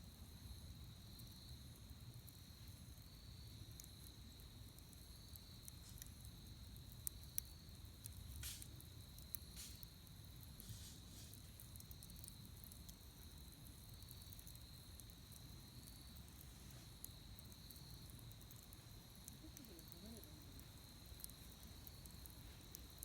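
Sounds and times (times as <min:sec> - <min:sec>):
wood fire crackling and popping: 0:00.2 - 0:23.0.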